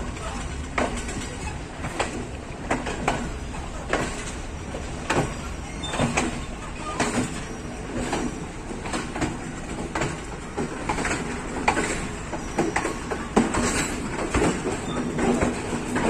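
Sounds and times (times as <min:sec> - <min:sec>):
clanks and knocks from wheels: 0:00.0 - 0:16.0
train rumbling on rails: 0:00.0 - 0:16.0.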